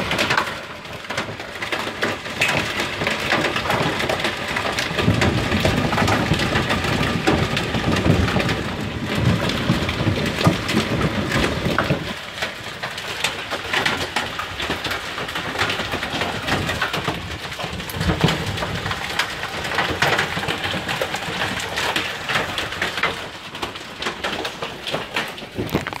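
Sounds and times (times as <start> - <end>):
hailstones clattering on hard surfaces: 0.0 - 26.0.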